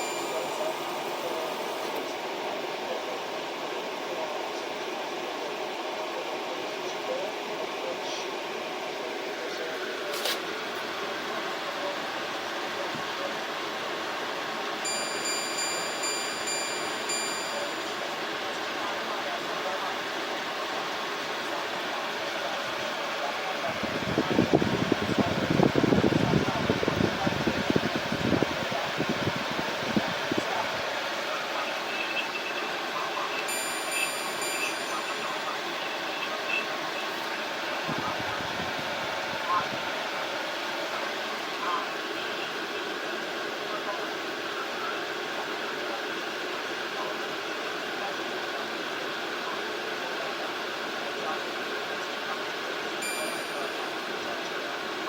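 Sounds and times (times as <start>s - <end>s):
air conditioner fan running: 0.0s - 55.0s.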